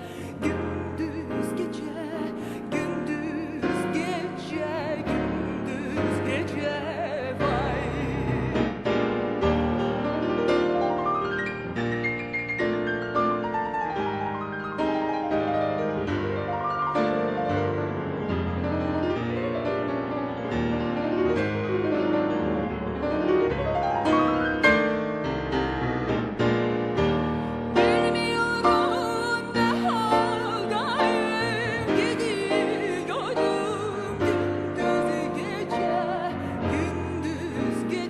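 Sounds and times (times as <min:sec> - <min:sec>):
piano music with quick runs: 0:00.0 - 0:38.0.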